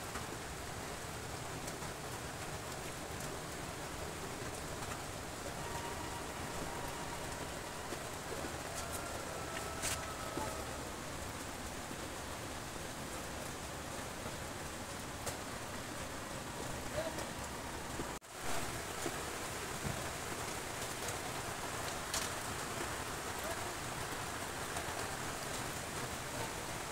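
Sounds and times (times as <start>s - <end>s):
rain hissing: 0.0s - 26.9s.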